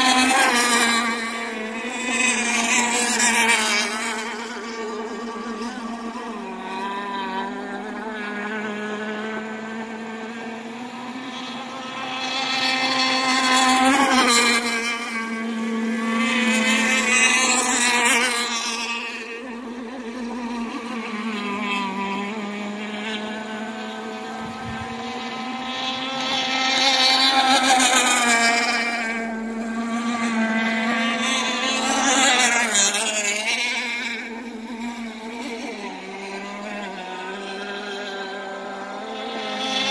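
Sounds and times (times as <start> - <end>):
racing boat engines droning: 0.0 - 39.9.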